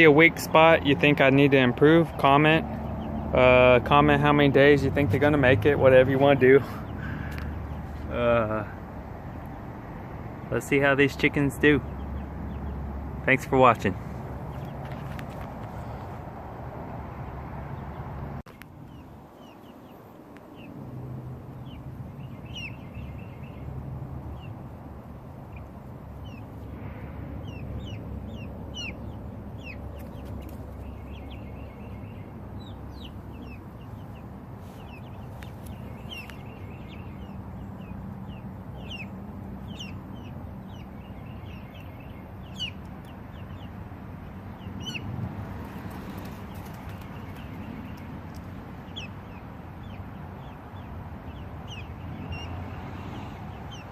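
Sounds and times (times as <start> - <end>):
chicks peeping: 0.0 - 16.2, 17.7 - 53.9.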